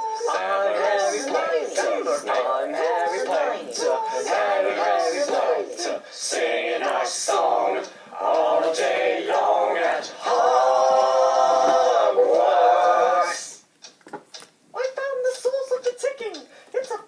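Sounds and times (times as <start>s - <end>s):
a cappella choir singing: 0.0s - 13.7s.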